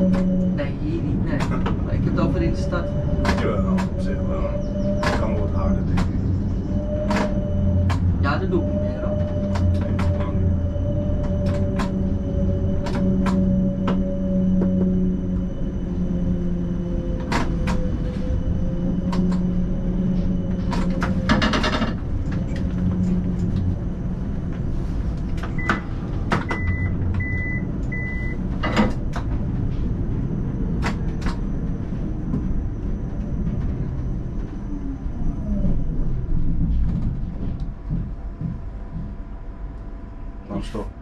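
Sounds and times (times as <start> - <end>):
tram motor hum and rumble: 0.0 - 41.0.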